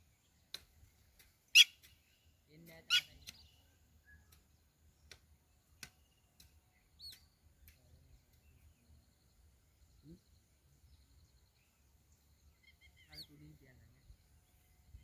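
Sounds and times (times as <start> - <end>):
faint bird chirps and trills: 0.0 - 15.0.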